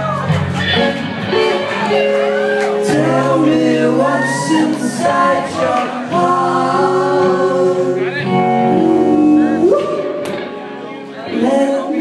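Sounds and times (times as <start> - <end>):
electric bass: 0.0 - 12.0
electric guitar: 0.0 - 12.0
person singing: 1.4 - 10.6, 11.2 - 12.0.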